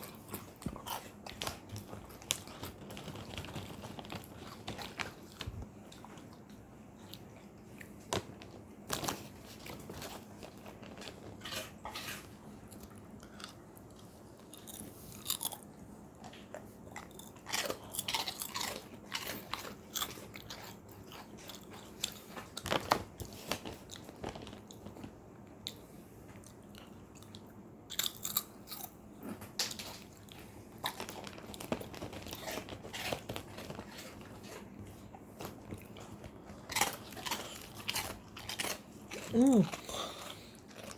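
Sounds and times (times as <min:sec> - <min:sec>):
dog crunching a treat: 0:00.0 - 0:40.9.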